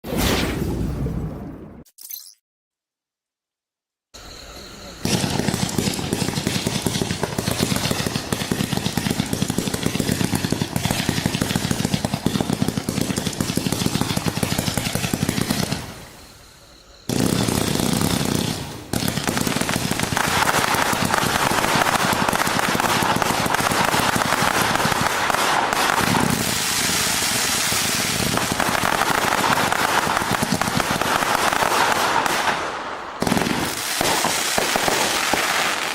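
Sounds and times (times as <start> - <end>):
firework cake firing crackling shots: 5.0 - 16.1, 17.1 - 35.9.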